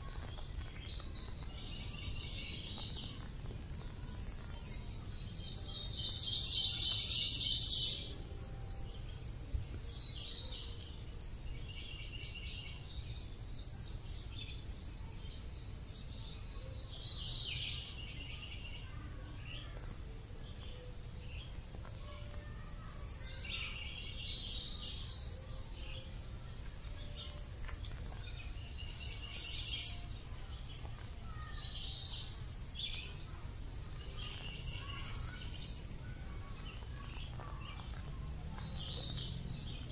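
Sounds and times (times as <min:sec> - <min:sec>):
birds chirping in rapid trills: 0:00.0 - 0:39.9.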